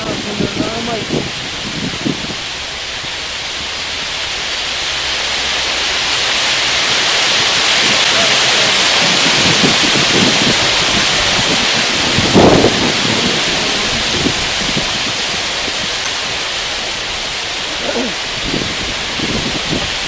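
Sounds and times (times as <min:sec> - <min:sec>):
wind rushing: 0:00.0 - 0:20.0.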